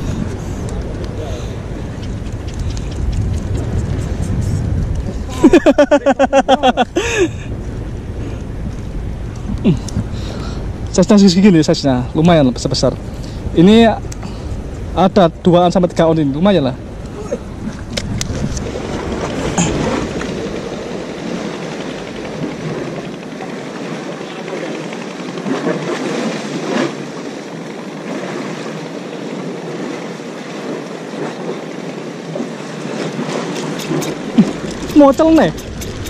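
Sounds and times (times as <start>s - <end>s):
sea water washing: 0.0s - 36.0s
wind: 0.0s - 36.0s.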